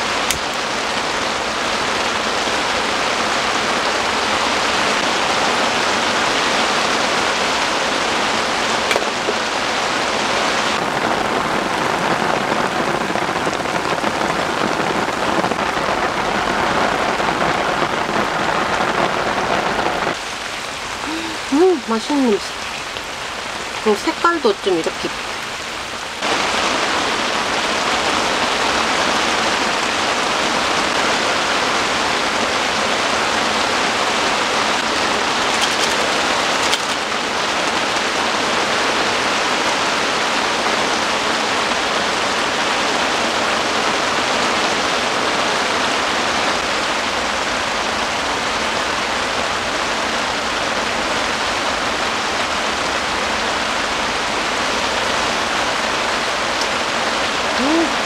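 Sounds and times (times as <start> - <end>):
heavy rain on tent fabric: 0.0 - 58.0.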